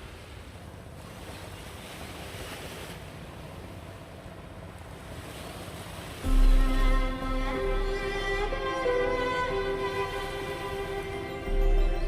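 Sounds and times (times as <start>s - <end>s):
sea surf washing on shore: 0.0s - 12.0s.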